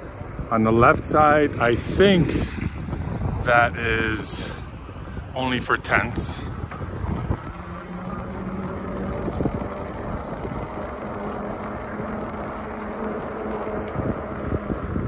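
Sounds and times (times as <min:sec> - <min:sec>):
wind rumbling on microphone: 0:00.0 - 0:15.0
vehicle engine hum: 0:01.6 - 0:15.0.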